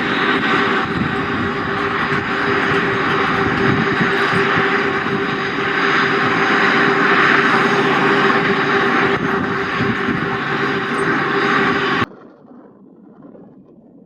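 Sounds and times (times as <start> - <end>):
airplane engines running: 0.0 - 12.1.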